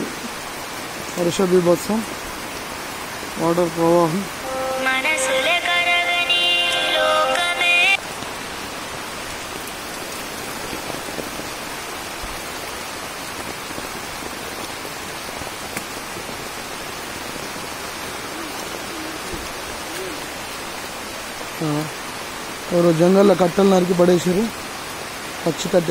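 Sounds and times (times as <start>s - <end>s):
heavy rain on foliage: 0.0s - 25.9s.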